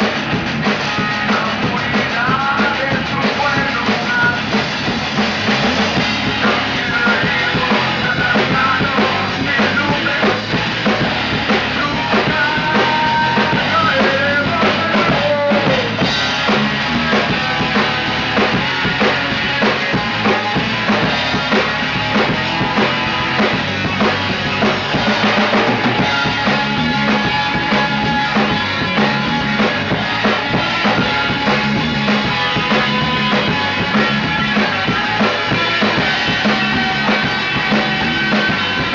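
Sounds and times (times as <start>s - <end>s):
drum kit beat: 0.0s - 38.9s
pitch-bending lead guitar: 0.0s - 38.9s
guitars playing: 4.0s - 38.9s.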